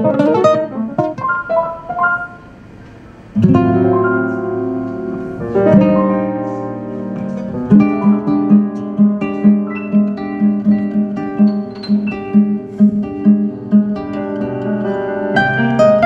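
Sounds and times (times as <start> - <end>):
amplified acoustic guitar: 0.0 - 16.0.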